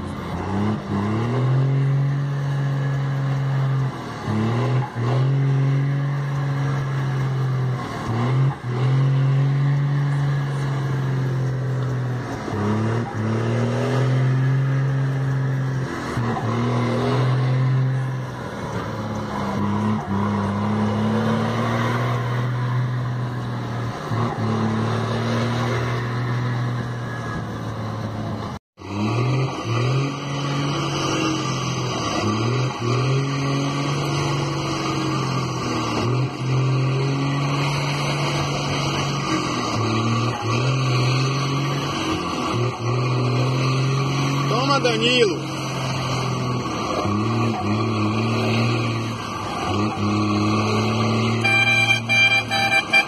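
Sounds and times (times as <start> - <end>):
heavy truck engine shifting gears: 0.0 - 53.0.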